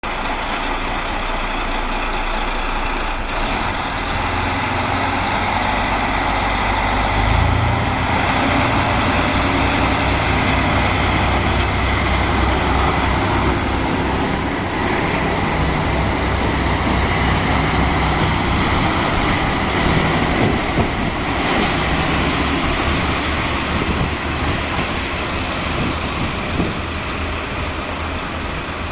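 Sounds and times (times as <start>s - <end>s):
diesel railcar engine revving: 0.0s - 28.9s
train rumbling and clattering on rails: 0.0s - 28.9s.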